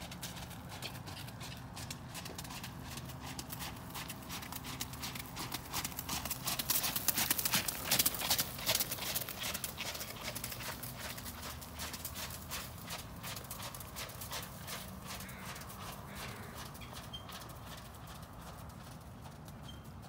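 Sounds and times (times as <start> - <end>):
hoofbeats on wet gravel: 0.0 - 20.0.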